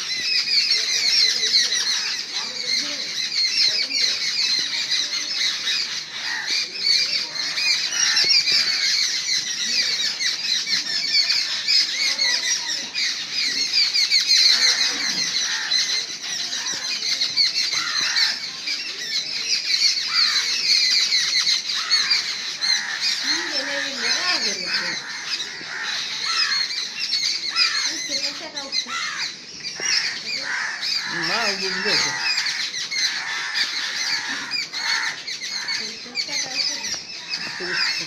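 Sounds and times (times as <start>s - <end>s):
crows cawing harshly: 0.0s - 38.0s.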